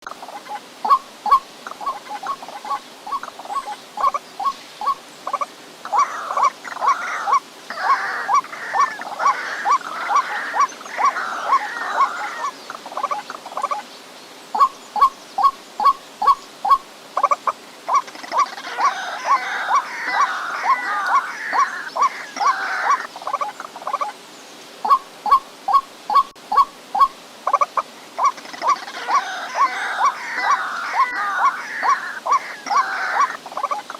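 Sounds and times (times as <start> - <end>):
waterhen croaking calls: 0.0 - 13.9, 14.5 - 24.2, 24.8 - 33.9.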